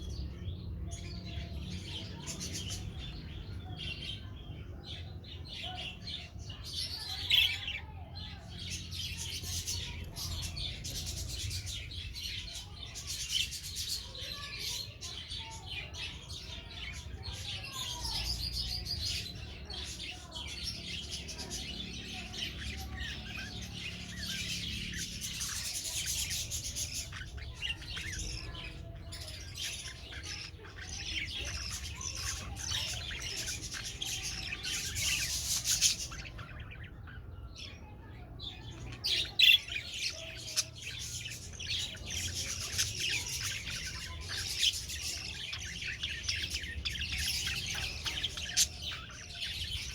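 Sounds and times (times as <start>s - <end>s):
budgerigars chattering: 0.9s - 49.9s.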